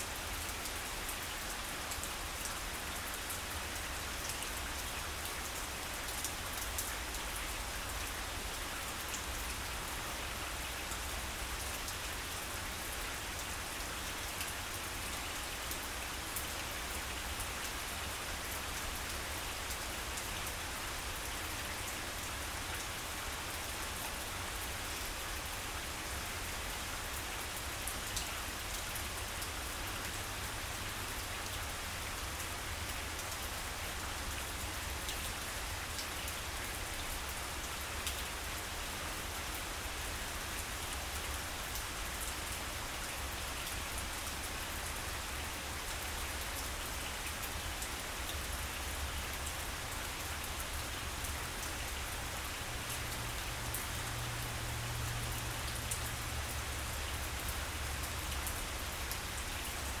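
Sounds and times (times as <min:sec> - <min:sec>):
rain falling on grass: 0:00.0 - 1:00.0.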